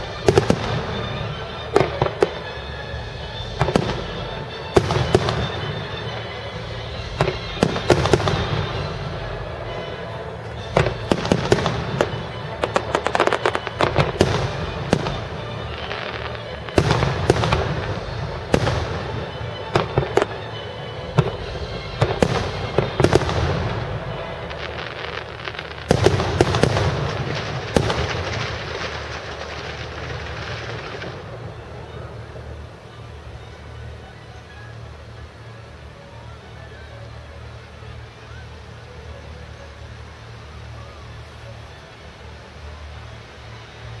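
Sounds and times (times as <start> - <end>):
distant fireworks bangs and crackling: 0.0 - 44.0.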